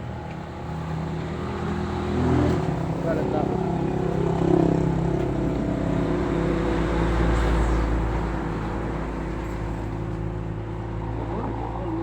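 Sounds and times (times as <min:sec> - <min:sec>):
low road rumble: 0:00.0 - 0:12.0
vehicle engine running: 0:00.0 - 0:12.0.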